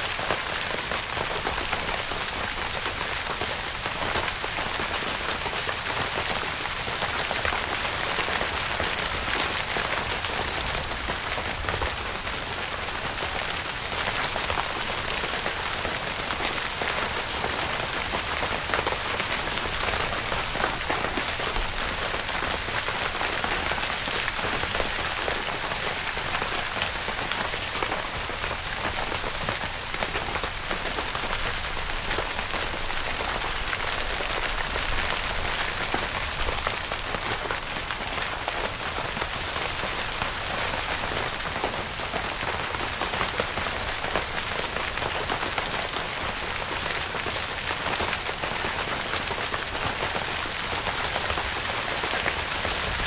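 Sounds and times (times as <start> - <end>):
rain pattering on tent fabric: 0.0 - 53.0.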